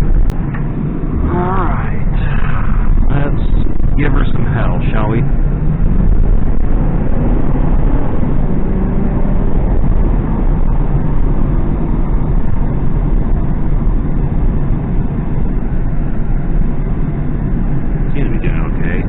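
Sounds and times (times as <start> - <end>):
car engine accelerating hard: 0.0 - 19.0
road noise: 0.0 - 19.0.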